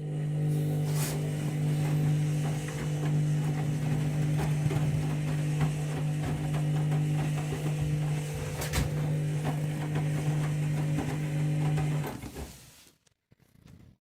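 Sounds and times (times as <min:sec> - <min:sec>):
washing machine humming: 0:00.0 - 0:12.9.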